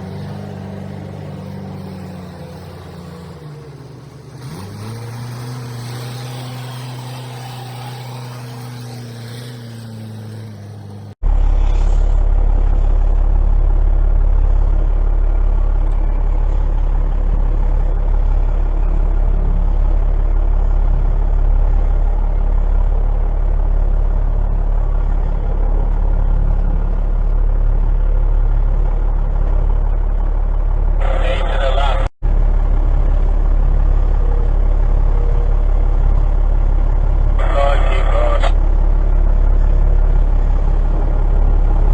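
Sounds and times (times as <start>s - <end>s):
heavy truck engine rumble: 0.0s - 41.9s.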